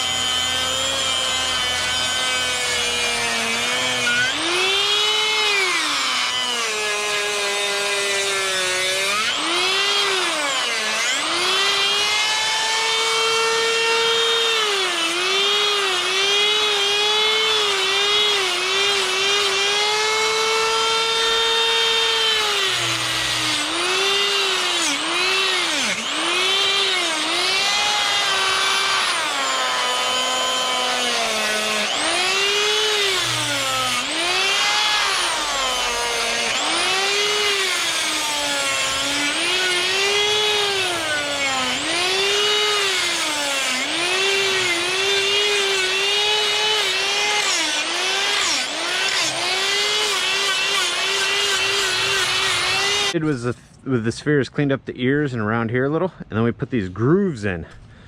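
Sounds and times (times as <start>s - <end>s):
die grinder cutting wood: 0.0s - 53.3s.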